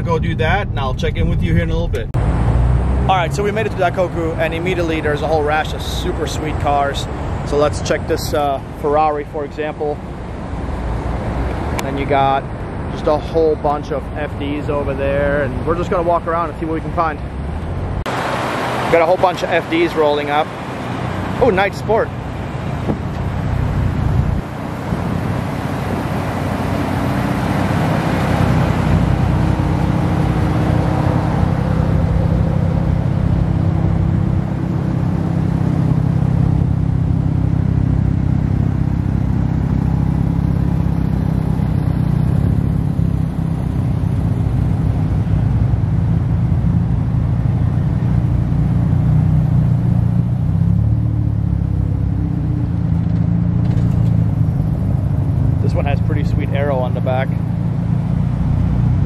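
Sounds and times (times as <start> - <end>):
rotary engine cars rolling past: 0.0 - 59.0.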